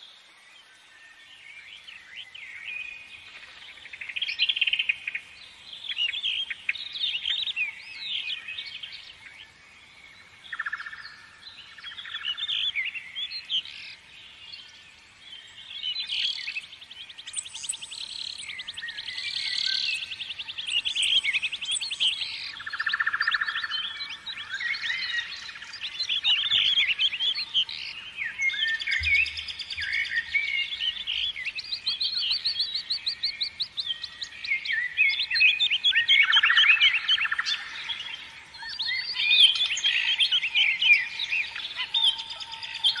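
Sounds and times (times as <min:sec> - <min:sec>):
several birds singing: 0:00.0 - 0:43.0.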